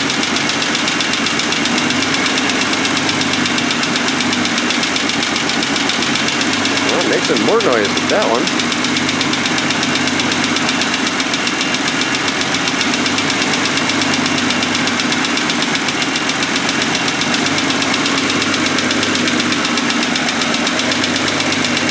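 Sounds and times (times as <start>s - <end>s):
car engine idling: 0.0s - 21.9s
rapid ticking engine knock: 0.0s - 21.9s.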